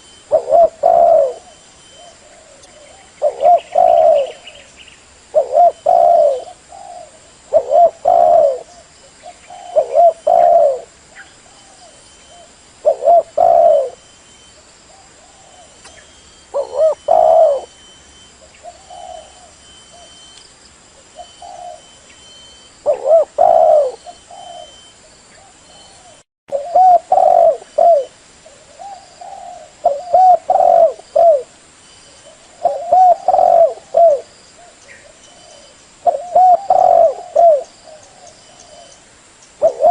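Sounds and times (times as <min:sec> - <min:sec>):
dove cooing: 0:00.0 - 0:04.7, 0:05.3 - 0:14.1, 0:14.9 - 0:20.2, 0:21.0 - 0:31.5, 0:32.1 - 0:39.0, 0:39.6 - 0:39.9.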